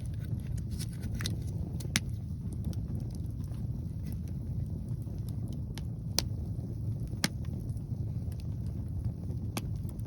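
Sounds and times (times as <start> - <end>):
wind buffeting microphone: 0.0 - 10.0
wood fire crackling: 0.0 - 10.0.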